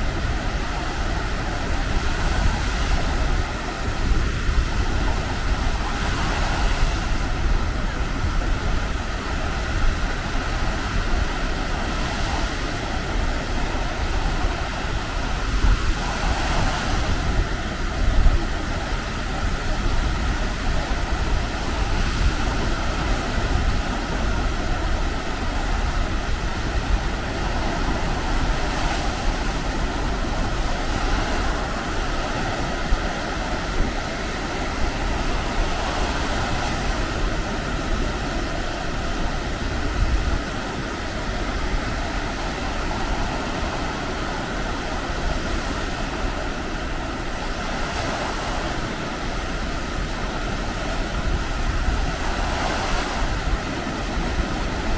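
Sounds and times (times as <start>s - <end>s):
surf washing onto beach: 0.0s - 54.9s
wind buffeting microphone: 0.0s - 54.9s.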